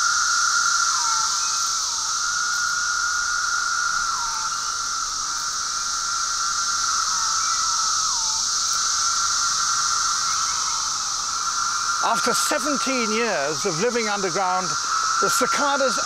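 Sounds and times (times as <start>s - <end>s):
cicadas chorus drone: 0.0s - 16.0s.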